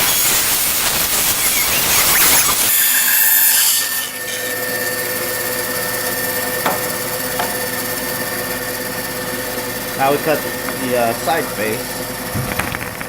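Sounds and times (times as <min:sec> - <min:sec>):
bandsaw cutting wood: 0:00.0 - 0:13.0
bandsaw running without load: 0:00.0 - 0:13.0.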